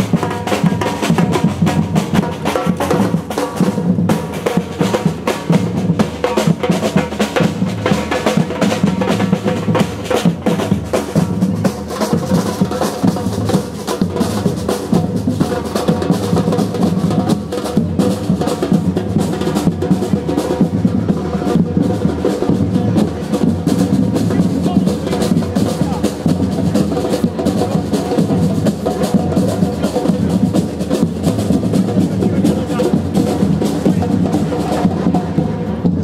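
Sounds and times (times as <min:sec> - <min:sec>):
drum band playing: 0:00.0 - 0:36.0.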